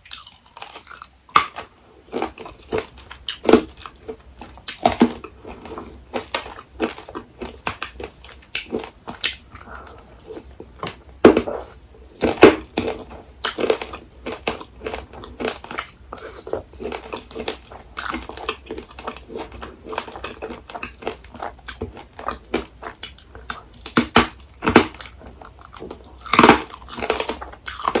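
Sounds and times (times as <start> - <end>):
crunching candied fruit: 0.0 - 28.0
wet chewing: 0.0 - 28.0.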